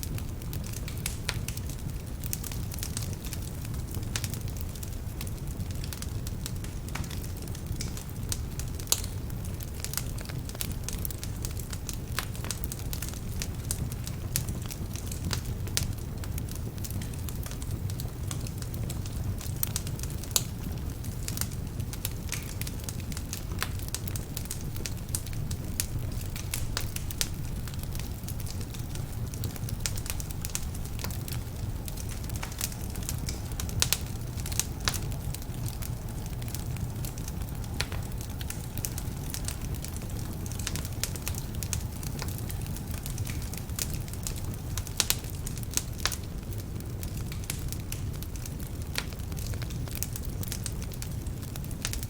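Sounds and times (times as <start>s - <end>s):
fire crackles and pops: 0.0s - 52.0s
wood fire rumbling: 0.0s - 52.0s.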